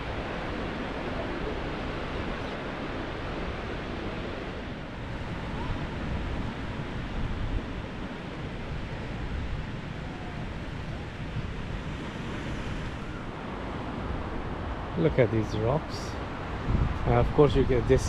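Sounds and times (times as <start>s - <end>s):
sea surf washing on beach: 0.0s - 18.0s
wind buffeting microphone: 0.0s - 18.0s.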